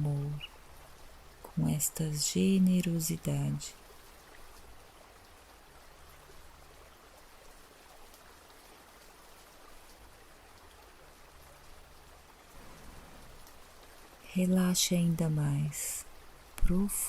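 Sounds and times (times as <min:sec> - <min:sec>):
gentle steady rain: 0:00.0 - 0:17.0.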